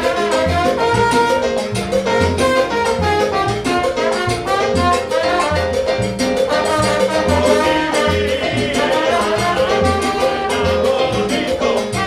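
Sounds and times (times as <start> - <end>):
keyboard piano: 0.0 - 12.0
latin percussion groove: 0.0 - 12.0
trombone melody: 0.0 - 12.0
repeating bass pulse: 0.5 - 12.0.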